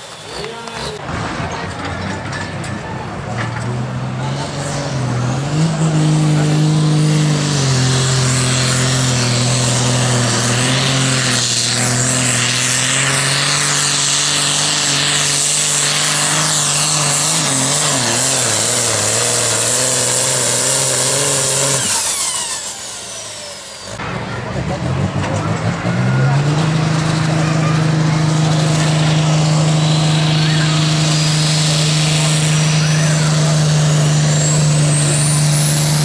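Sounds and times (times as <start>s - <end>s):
tractor engine at full throttle: 0.0s - 36.0s.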